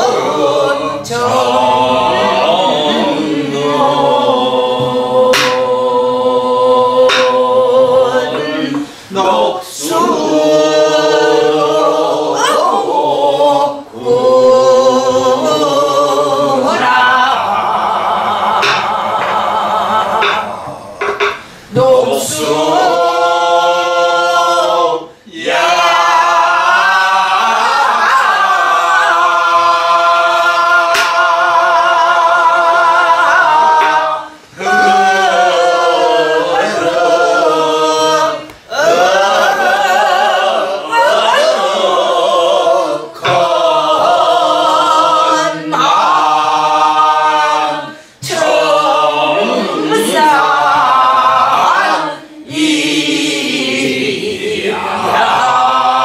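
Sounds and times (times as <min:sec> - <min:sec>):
group singing unaccompanied: 0:00.0 - 0:56.0.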